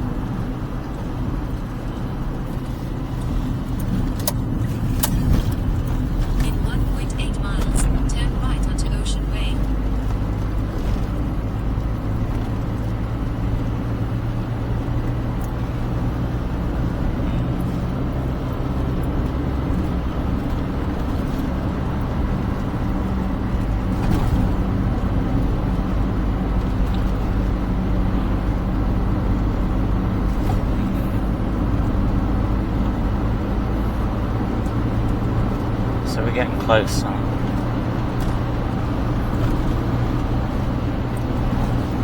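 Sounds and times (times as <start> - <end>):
car engine drone: 0.0 - 42.0
road rumble: 0.0 - 42.0.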